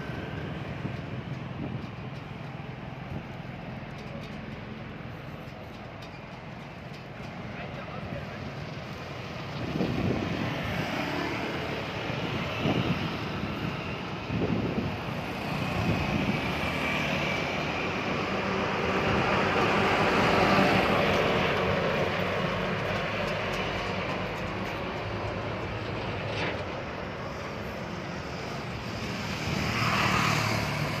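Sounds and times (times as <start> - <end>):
vehicle running with rushing hum: 0.0 - 31.0.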